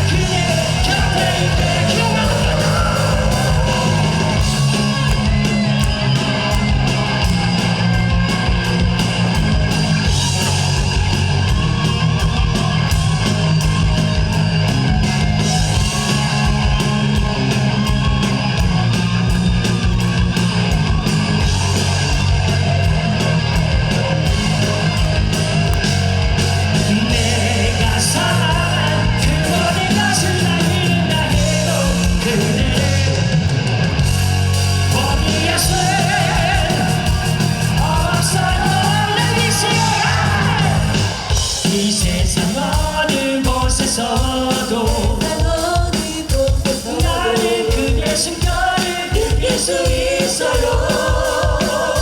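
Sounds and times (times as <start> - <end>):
electric guitar: 0.0 - 52.0
live rock band playing: 0.0 - 52.0.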